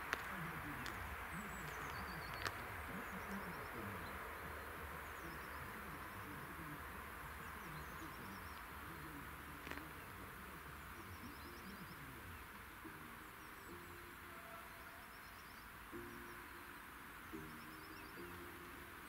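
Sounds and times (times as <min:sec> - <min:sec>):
small birds chirping faintly: 0:00.0 - 0:19.0
steady low hiss: 0:00.0 - 0:19.0.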